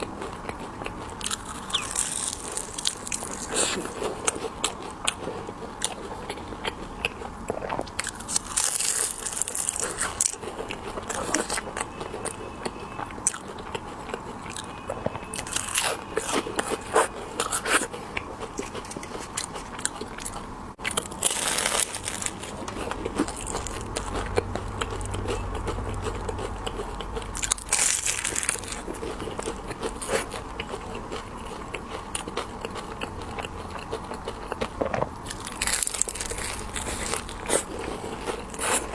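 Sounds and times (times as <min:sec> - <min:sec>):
hard candy crunching between teeth: 0:00.0 - 0:38.9
wet chewing: 0:00.0 - 0:38.9.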